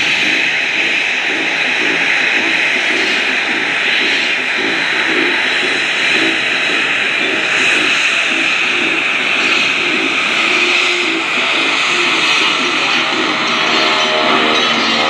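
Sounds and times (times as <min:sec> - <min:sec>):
twin piston engine plane droning: 0:00.0 - 0:15.0.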